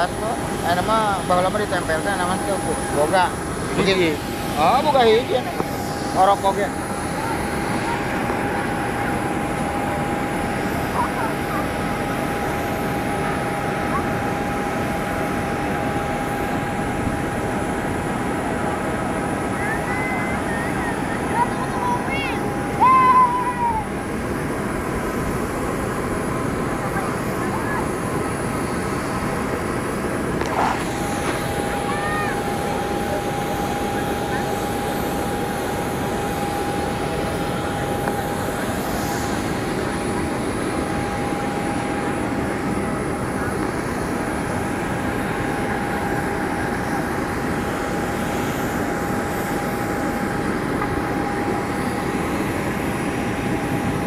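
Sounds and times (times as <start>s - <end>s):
high whine: 0.0s - 54.0s
jet airliner roar: 0.0s - 54.0s.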